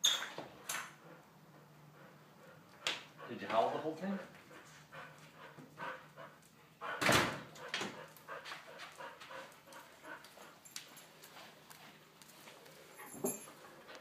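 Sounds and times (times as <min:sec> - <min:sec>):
soft dog noises: 0:00.5 - 0:14.0.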